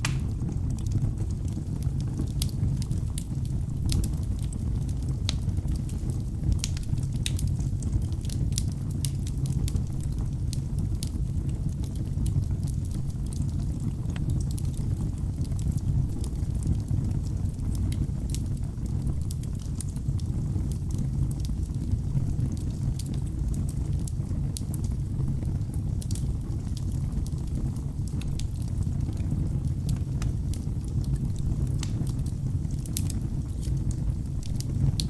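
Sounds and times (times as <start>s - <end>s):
flames rushing: 0.0s - 35.0s
logs crackling and popping: 0.0s - 35.0s.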